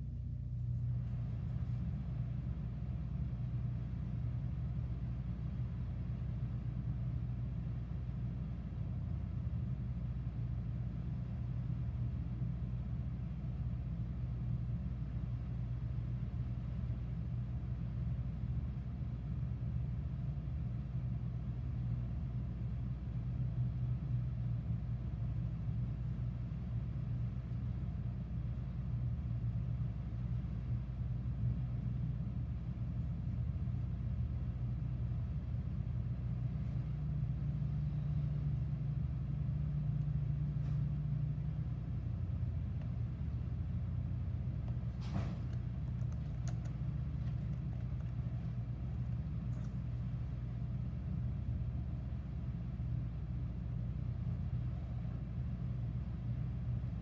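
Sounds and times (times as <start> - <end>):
low mechanical hum with rumble: 0.0 - 57.0.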